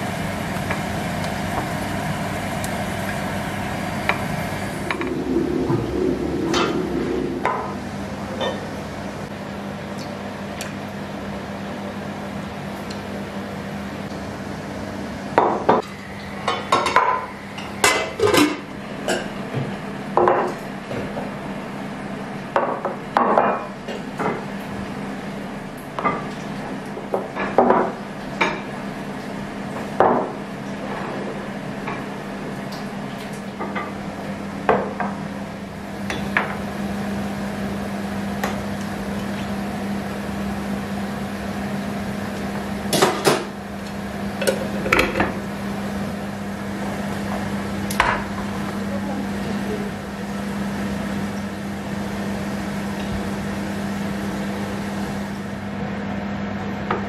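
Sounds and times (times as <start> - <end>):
low appliance hum: 0.0 - 57.0.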